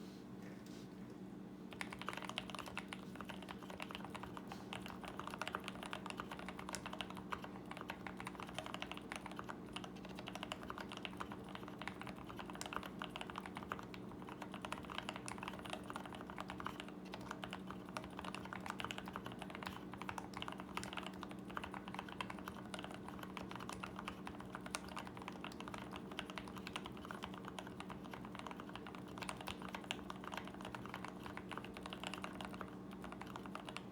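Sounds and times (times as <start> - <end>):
typing on mechanical keyboard: 1.7 - 33.9.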